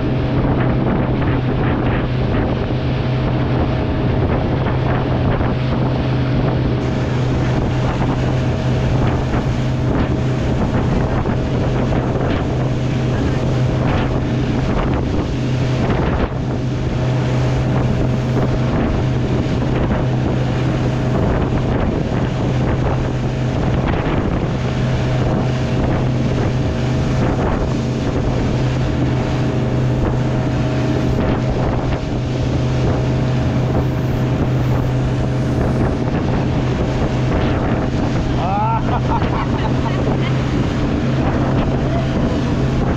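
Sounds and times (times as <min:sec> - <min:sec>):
motorboat engine running: 0:00.0 - 0:42.9
water splashing: 0:00.0 - 0:42.9
wind buffeting microphone: 0:00.0 - 0:42.9.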